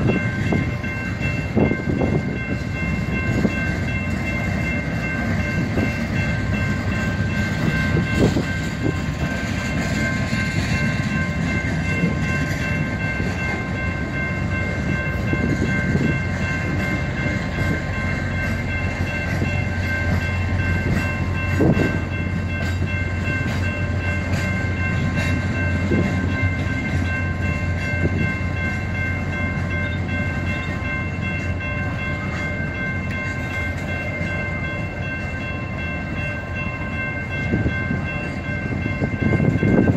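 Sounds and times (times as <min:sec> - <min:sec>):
freight train rumbling past: 0:00.0 - 0:39.9
train cars clanking: 0:00.0 - 0:39.9.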